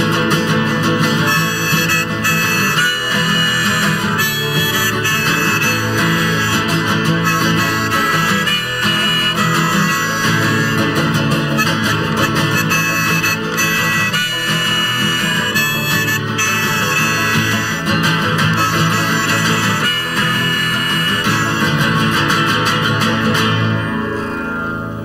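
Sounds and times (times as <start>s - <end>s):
acoustic guitar strumming: 0.0s - 25.0s
harmonica solo: 0.0s - 25.0s.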